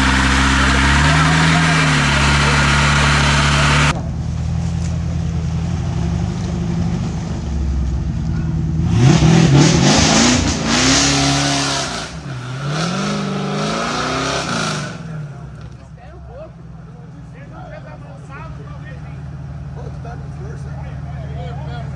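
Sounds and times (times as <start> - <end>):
off-road vehicle engine revving: 0.0 - 21.9.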